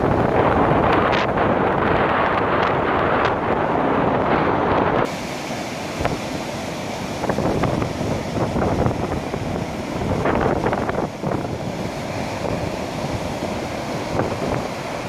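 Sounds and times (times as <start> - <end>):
gale wind buffeting microphone: 0.0 - 15.0
surf breaking on sandy shore: 0.0 - 15.0.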